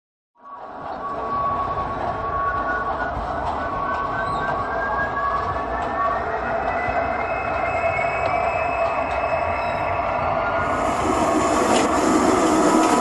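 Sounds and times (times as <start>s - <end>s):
high whine rising in pitch: 0.7s - 13.0s
model trains rumbling: 0.7s - 13.0s.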